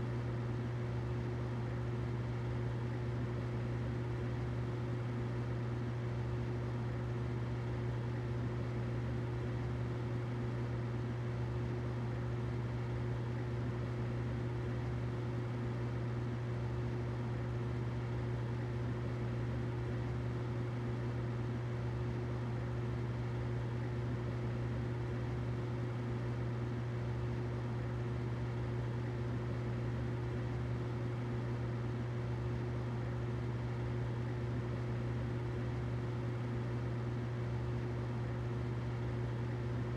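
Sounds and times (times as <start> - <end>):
humidifier humming: 0.0 - 39.9.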